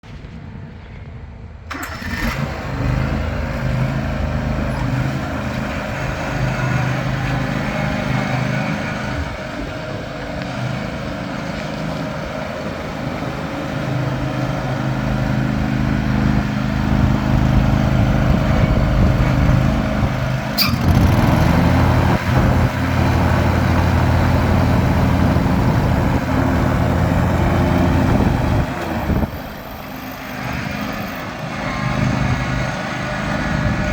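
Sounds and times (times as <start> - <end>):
lawn tractor engine running: 1.7 - 33.9.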